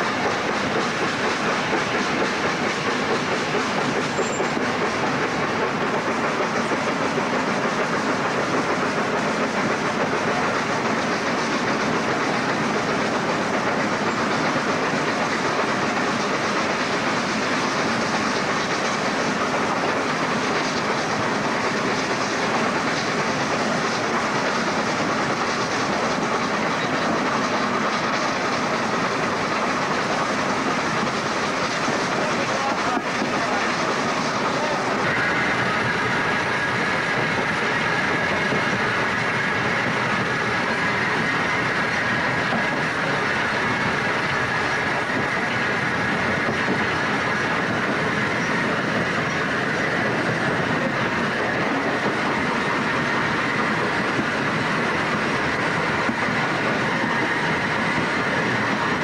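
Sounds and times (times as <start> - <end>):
steam locomotive running at speed: 0.0 - 59.0.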